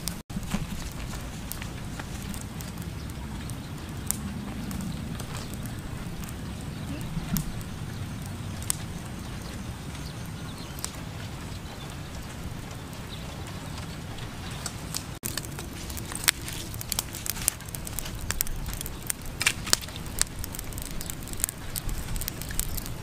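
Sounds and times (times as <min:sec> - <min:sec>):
charcoal fire crackling and popping: 0:00.0 - 0:23.0
low rumble: 0:00.0 - 0:23.0.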